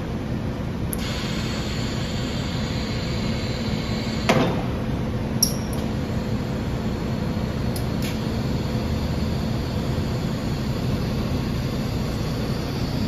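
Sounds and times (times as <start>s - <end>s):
machine-shop hum: 0.0s - 13.0s.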